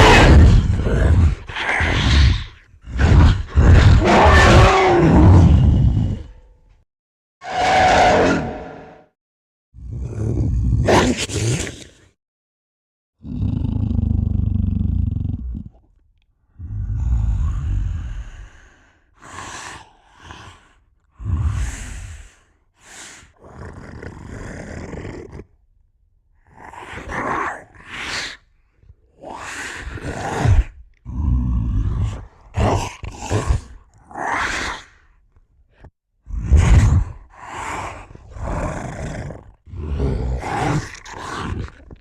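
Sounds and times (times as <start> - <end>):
growl and roar sound effects: 0.0 - 6.6, 7.4 - 9.1, 9.8 - 12.1, 13.2 - 15.9, 16.5 - 25.6, 26.4 - 35.1, 35.7 - 42.0.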